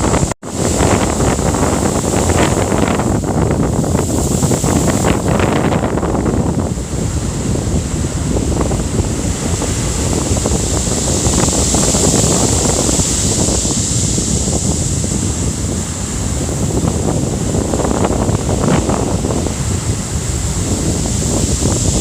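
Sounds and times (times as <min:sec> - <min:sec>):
heavy surf breaking on shore: 0:00.0 - 0:22.0
wind buffeting microphone: 0:00.0 - 0:22.0.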